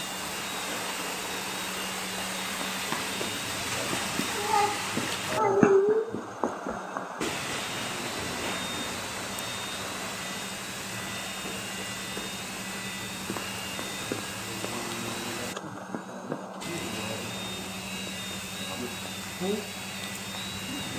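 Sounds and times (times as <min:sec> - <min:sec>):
mechanical hum and hiss: 0:00.0 - 0:20.9.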